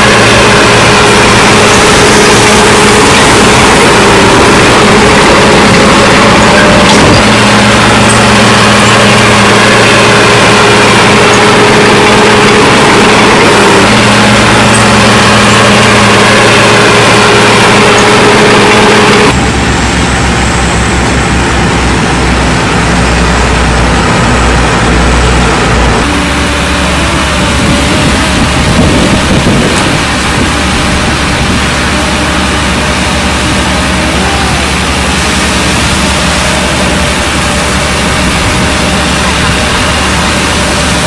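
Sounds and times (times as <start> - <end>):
deeper throbbing engine: 0.0 - 41.0
heavy diesel engine running: 0.0 - 41.0.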